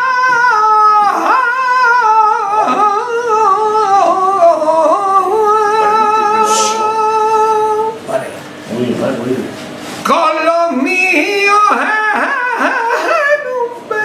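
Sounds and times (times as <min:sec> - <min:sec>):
man singing flamenco: 0:00.0 - 0:08.0, 0:10.0 - 0:14.0.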